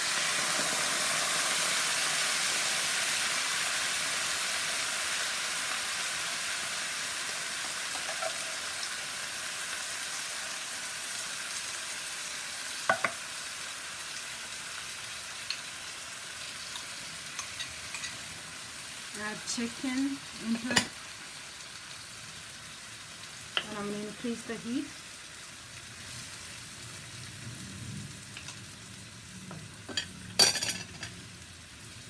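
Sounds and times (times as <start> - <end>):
food sizzling in a frying pan: 0.0 - 32.0.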